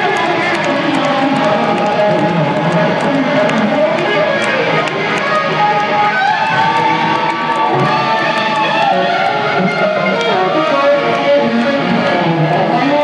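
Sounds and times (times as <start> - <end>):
electric guitar bending notes: 0.0 - 13.0
rock band playing: 0.0 - 13.0.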